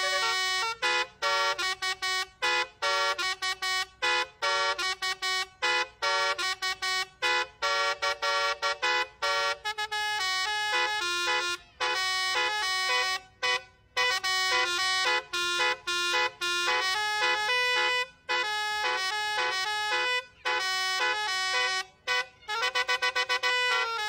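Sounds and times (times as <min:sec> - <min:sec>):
musical bus horn playing a tune: 0:00.0 - 0:24.0.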